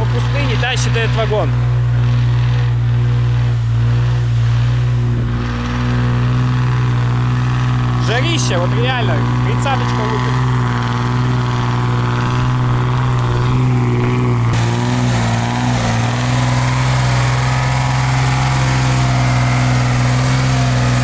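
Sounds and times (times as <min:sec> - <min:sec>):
truck engine under load: 0:00.0 - 0:21.0.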